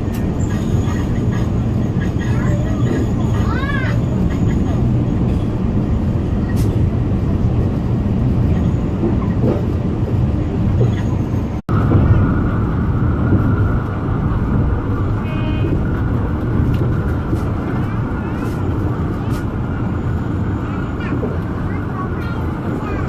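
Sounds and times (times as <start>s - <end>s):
train carriage rumbling on rails: 0.0s - 23.0s.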